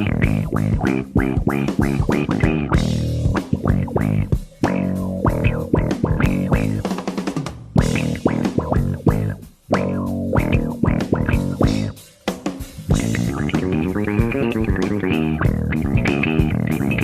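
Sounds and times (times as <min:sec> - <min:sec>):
funk bass guitar with auto-wah: 0:00.0 - 0:17.0.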